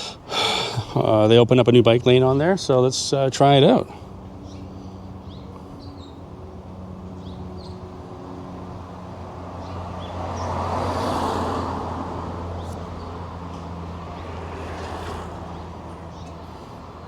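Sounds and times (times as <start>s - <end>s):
city street traffic hum: 0.0s - 17.0s
vehicle passing close: 0.0s - 17.0s.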